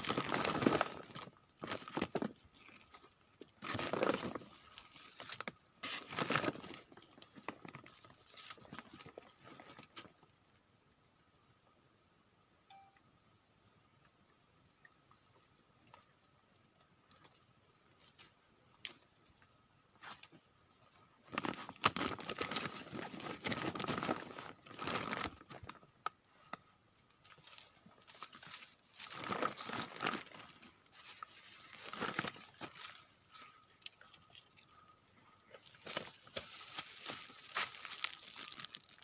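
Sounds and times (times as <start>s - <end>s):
rustling and crackling with clicks: 0.0s - 10.3s, 15.1s - 39.0s.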